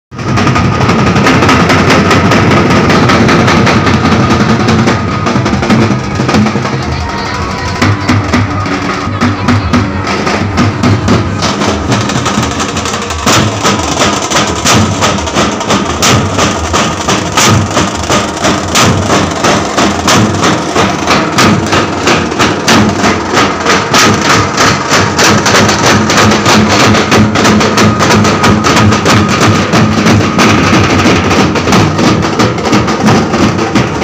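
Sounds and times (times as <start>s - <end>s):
drum band drumming: 0.1s - 34.0s.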